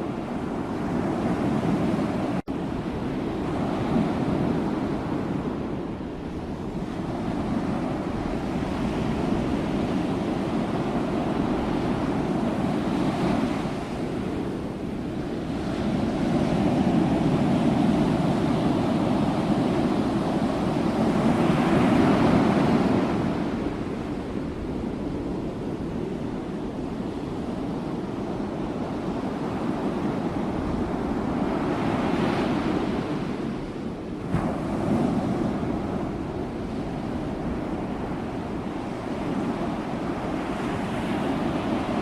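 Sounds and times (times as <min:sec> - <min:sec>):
ocean waves breaking on shore: 0:00.0 - 0:42.0.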